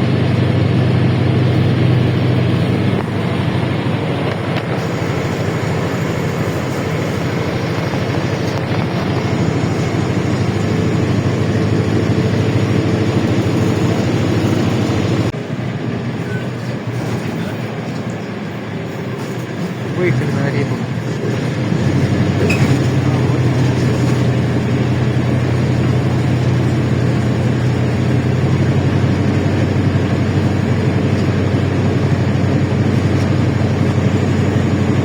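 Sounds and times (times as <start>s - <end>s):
bus body rattle: 0.0s - 15.4s, 20.9s - 35.0s
bus engine drone: 0.0s - 35.0s
road noise: 0.0s - 35.0s.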